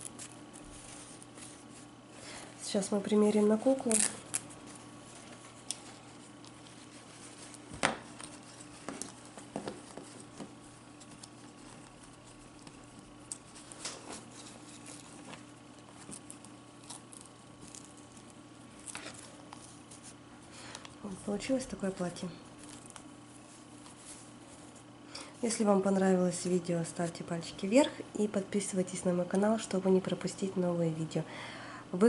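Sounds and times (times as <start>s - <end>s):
fabric rustling: 0.0s - 25.9s
faint steady hum: 0.0s - 32.0s.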